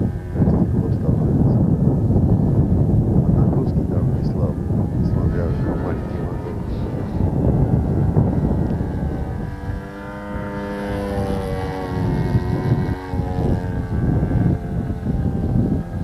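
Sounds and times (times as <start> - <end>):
model plane engine drone: 0.0 - 16.0
wind rumble on microphone: 0.0 - 16.0.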